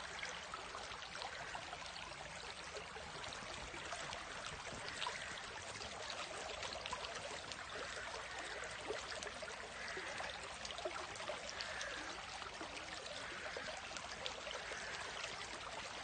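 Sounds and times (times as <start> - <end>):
small water splashes: 0.0 - 16.0
stream flowing: 0.0 - 16.0.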